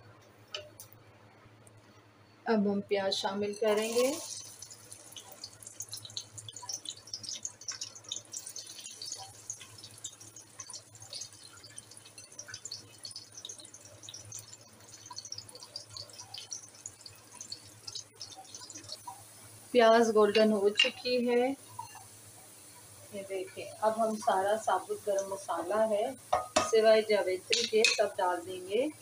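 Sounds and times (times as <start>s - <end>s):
onions frying in hot oil: 3.1s - 29.0s.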